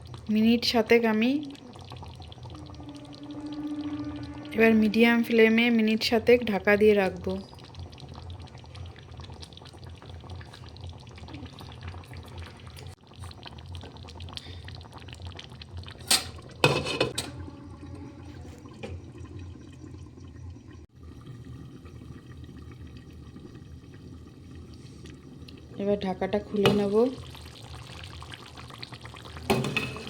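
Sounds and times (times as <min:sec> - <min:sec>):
curry bubbling in a pot: 0:00.0 - 0:30.0.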